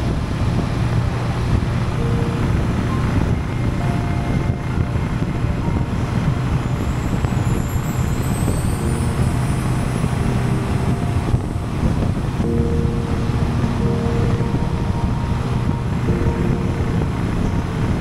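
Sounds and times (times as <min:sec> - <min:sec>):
motorcycle engine cruising: 0:00.0 - 0:18.0
wind rush: 0:00.0 - 0:18.0.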